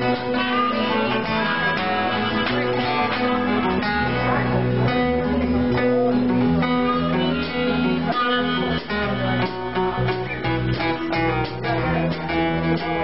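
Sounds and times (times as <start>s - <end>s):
acoustic guitars strumming: 0.0s - 13.0s
low held notes: 0.0s - 13.0s.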